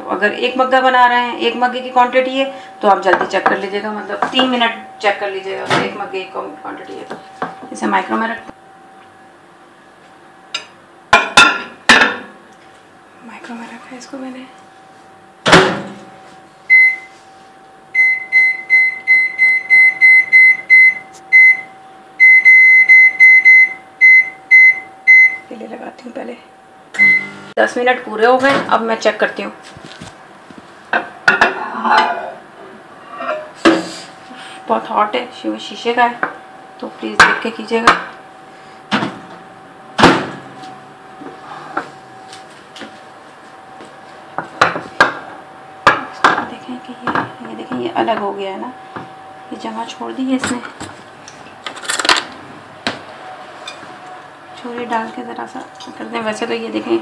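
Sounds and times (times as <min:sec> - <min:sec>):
faint steady hum: 0:00.0 - 0:52.4.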